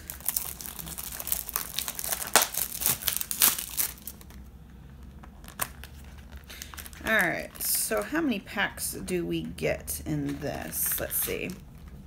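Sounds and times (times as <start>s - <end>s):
cellophane wrap crinkling and tearing: 0.0s - 8.4s, 10.2s - 12.0s.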